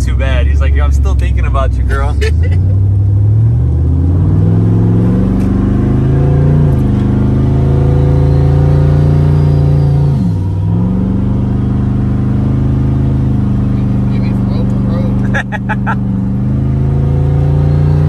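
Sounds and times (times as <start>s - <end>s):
truck engine cruising: 0.0s - 18.0s.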